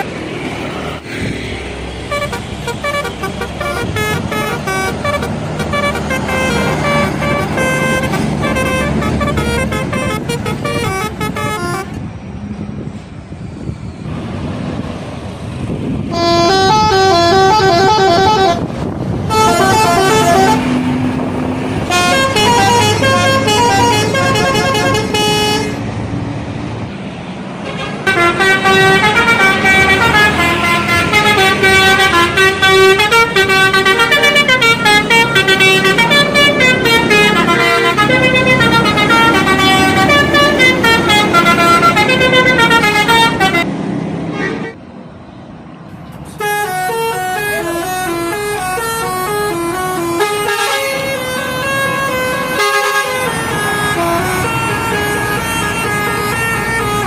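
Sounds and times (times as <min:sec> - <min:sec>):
road noise: 0:00.0 - 0:57.0
multi-tone bus horn melody: 0:02.0 - 0:12.1, 0:16.0 - 0:25.8, 0:27.6 - 0:43.7, 0:46.3 - 0:57.0.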